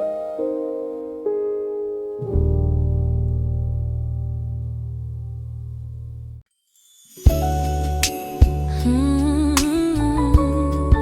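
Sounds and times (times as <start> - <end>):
slow piano music: 0.0 - 6.2, 7.1 - 11.0.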